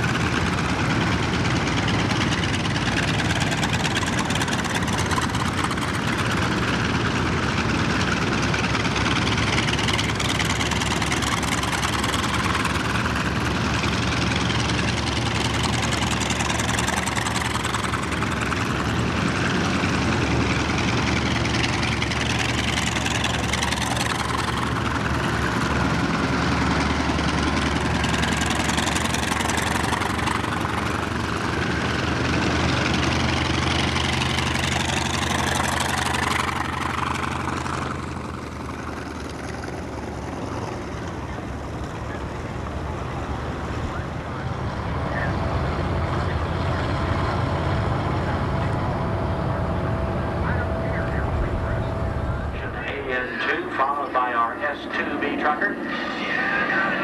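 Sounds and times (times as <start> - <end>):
propeller plane engines drone: 0.0 - 57.0.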